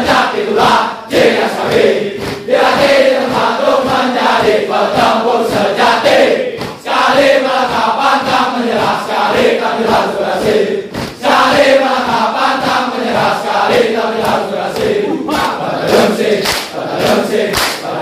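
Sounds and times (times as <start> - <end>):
group chanting in unison: 0.0 - 18.0
hand claps: 0.0 - 18.0.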